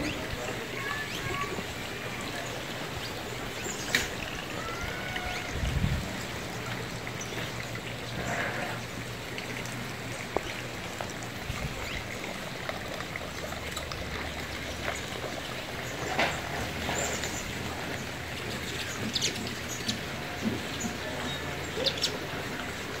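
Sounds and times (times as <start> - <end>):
water trickling into fountain basin: 0.0 - 23.0.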